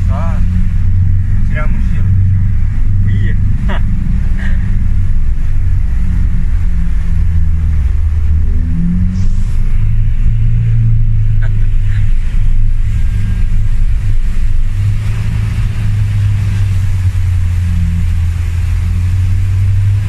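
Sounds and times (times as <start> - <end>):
vehicle engine droning: 0.0 - 20.0
water splashing against vehicle: 0.0 - 20.0.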